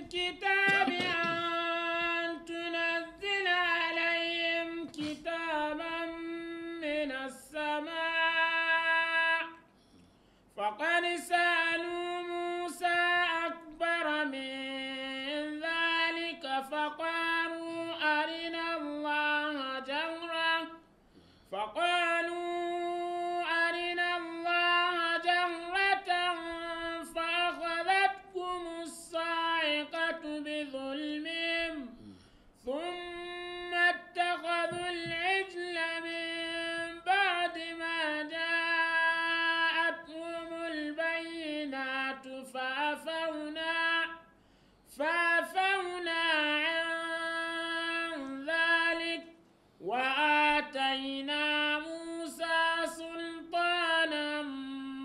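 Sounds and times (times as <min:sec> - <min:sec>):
man chanting melodically: 0:00.0 - 0:09.6, 0:10.6 - 0:20.8, 0:21.6 - 0:44.3, 0:44.9 - 0:55.0.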